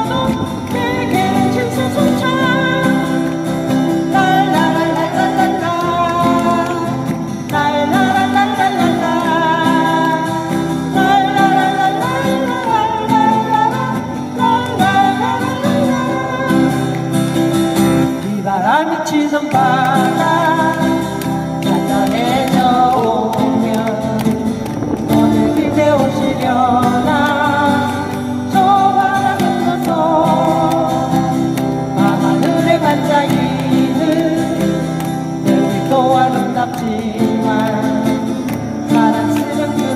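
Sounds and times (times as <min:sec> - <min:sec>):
person singing: 0:00.0 - 0:39.9
strummed acoustic guitar: 0:00.0 - 0:39.9.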